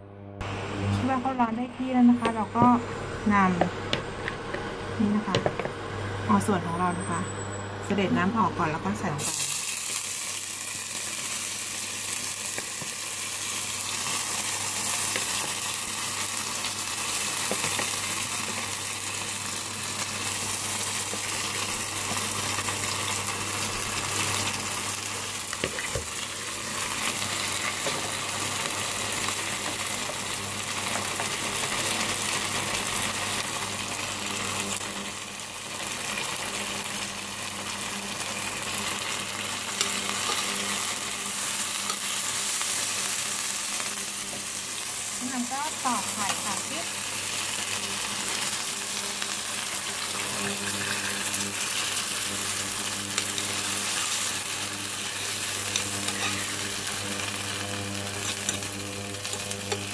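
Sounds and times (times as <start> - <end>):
seafood sizzling in hot oil: 8.9 - 59.9.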